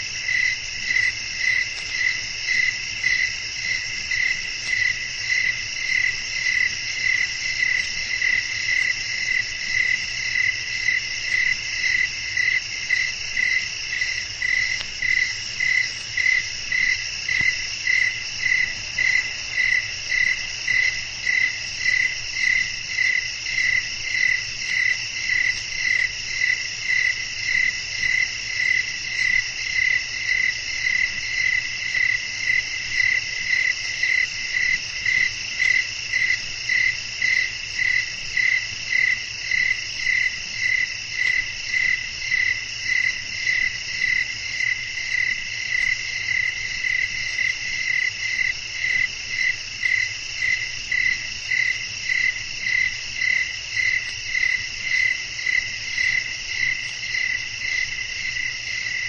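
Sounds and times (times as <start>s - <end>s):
chorus of trilling insects: 0.0s - 59.0s
cricket chirping: 0.0s - 59.0s.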